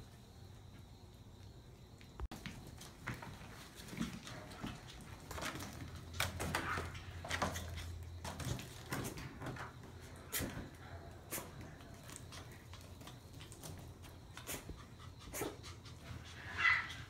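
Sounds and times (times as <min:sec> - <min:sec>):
puppies pawing foil balloon: 0:02.4 - 0:16.9.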